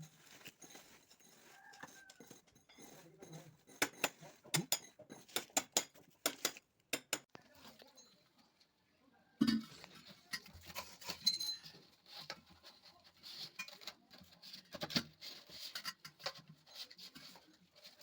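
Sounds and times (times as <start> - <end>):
small tools clicking and scraping: 0.0 - 8.2, 9.8 - 18.0.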